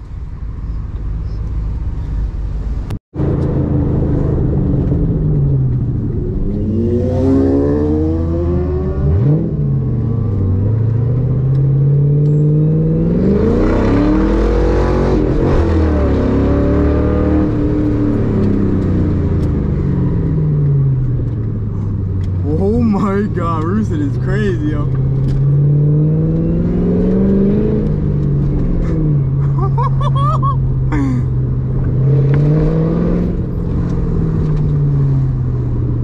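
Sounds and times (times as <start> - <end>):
car engine accelerating: 0.0 - 36.0.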